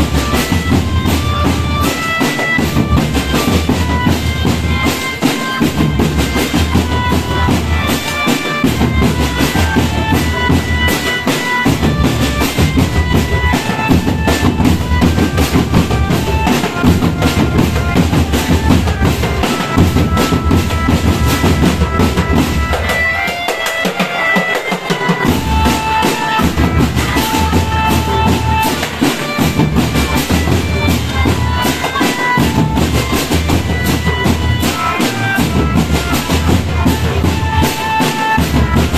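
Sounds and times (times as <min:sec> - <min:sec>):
snare drums beating: 0:00.0 - 0:38.9.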